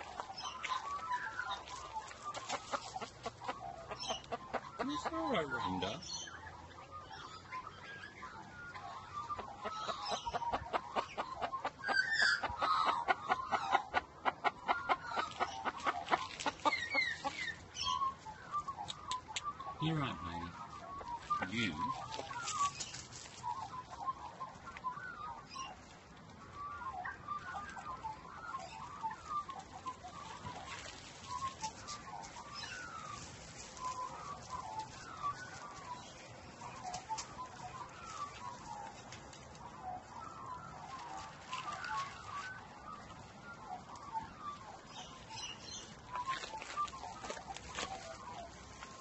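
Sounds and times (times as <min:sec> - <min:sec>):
chickens clucking softly: 0:00.0 - 0:49.0.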